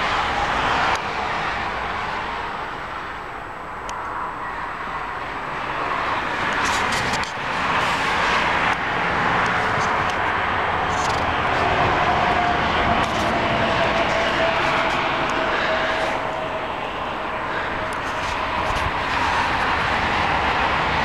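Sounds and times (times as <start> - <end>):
roar of passing vehicles: 0.0 - 21.0.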